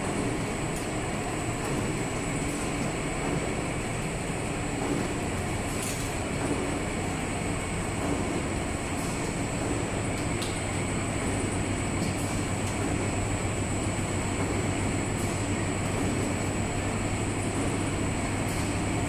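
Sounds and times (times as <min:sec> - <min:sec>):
conveyor mechanical rumble: 0:00.0 - 0:19.0.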